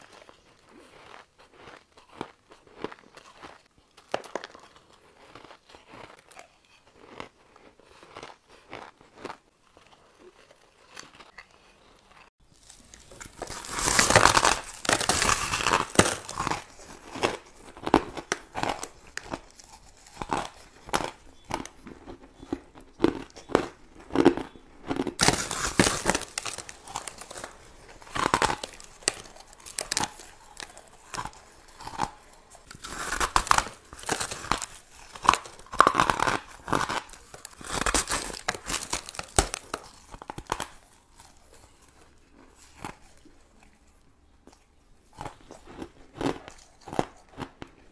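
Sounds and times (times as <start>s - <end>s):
ice being chewed with crunches: 0.0s - 47.9s.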